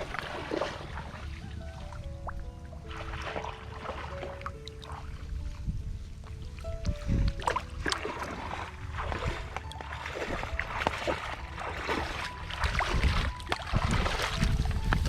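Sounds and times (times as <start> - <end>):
background music: 0.0 - 15.0
water splashing and sloshing: 0.0 - 15.0.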